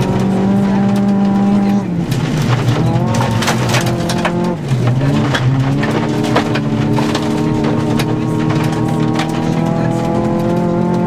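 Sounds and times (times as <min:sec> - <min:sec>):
gravel knocking against car: 0:00.0 - 0:11.0
rally car engine revving: 0:00.0 - 0:11.0.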